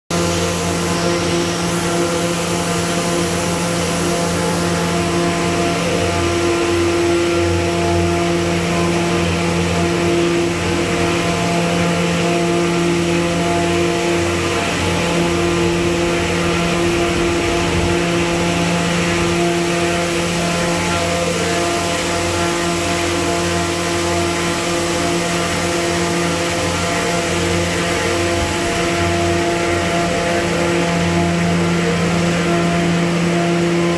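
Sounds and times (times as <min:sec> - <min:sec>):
production line machine drone: 0:00.1 - 0:33.9.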